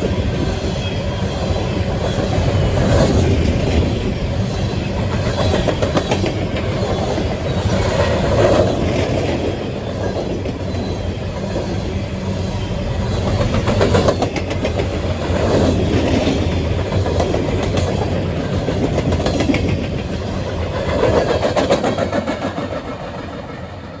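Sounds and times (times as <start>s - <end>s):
train rumble: 0.0s - 24.0s
train wheels clacking over rail joints: 0.0s - 24.0s.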